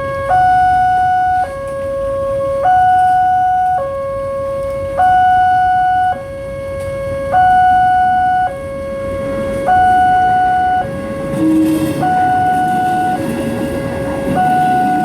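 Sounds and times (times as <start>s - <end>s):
two-tone crossing warning alarm: 0.0s - 15.0s.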